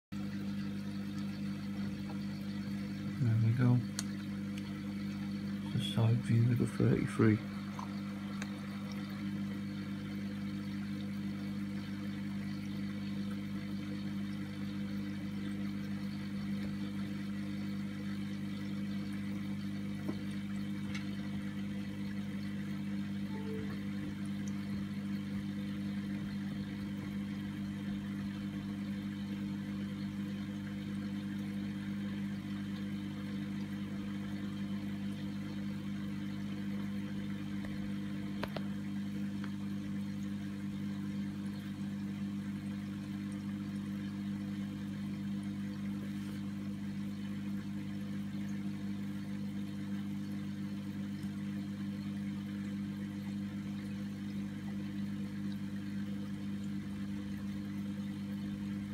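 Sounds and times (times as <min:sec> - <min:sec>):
aquarium pump humming: 0:00.1 - 0:58.9.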